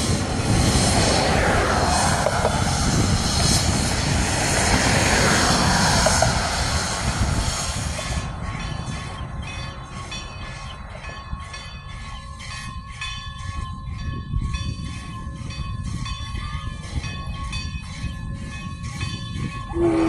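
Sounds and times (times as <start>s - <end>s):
steam locomotive chugging: 0.0s - 20.0s.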